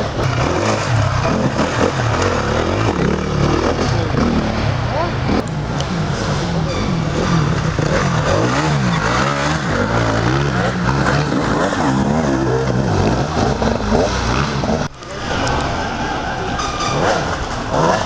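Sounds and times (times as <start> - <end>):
motorcycle engine revving hard: 0.0 - 18.0.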